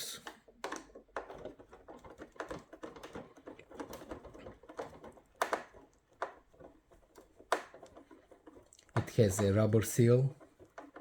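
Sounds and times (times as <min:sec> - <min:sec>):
plastic parts clicking: 0:00.0 - 0:11.0.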